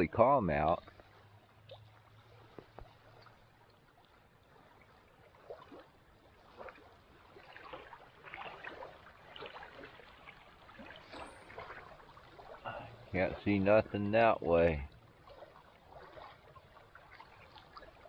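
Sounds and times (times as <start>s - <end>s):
small waves lapping on rocks: 0.1s - 18.0s.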